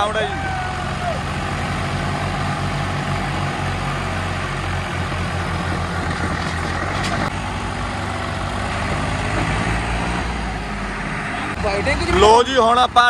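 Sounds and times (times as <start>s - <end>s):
tractor diesel engines running: 0.0s - 13.0s.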